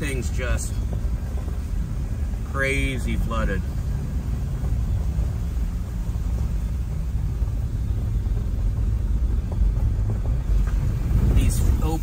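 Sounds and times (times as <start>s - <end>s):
vehicle driving on wet gravel: 0.0s - 12.0s.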